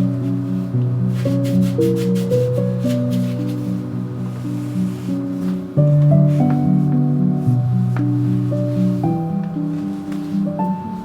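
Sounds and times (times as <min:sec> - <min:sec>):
calm music with bass line: 0:00.0 - 0:11.0
soft hiss-like strokes: 0:00.0 - 0:11.0.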